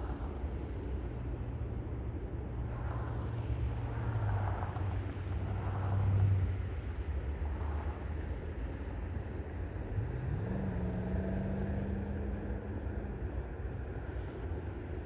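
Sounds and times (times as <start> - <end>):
motor vehicle rumble: 0.0 - 15.0.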